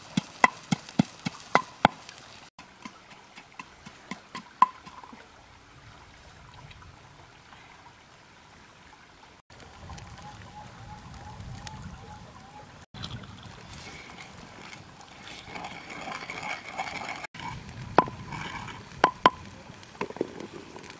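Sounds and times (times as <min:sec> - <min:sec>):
river water flowing: 0:00.0 - 0:20.9.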